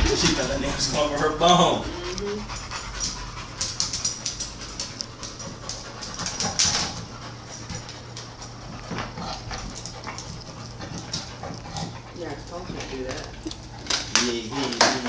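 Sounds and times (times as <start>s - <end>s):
dogs gnawing on a bone: 0.0s - 15.0s.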